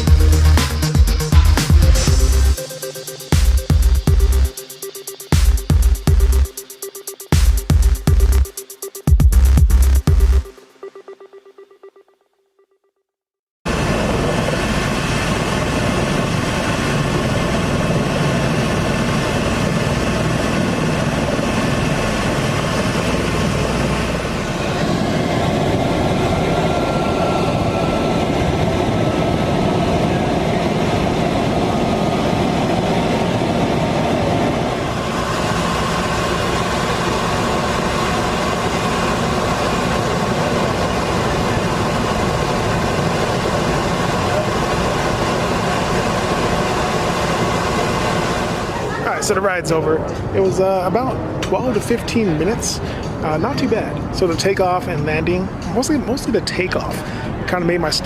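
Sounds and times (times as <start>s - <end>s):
helicopter engine and rotor drone: 0.0s - 9.0s, 13.7s - 58.0s.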